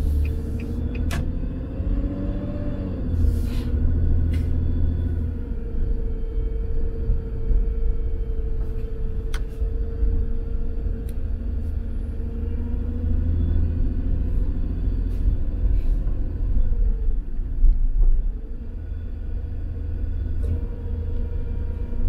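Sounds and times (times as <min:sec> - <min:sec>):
car interior engine rumble: 0:00.0 - 0:22.0.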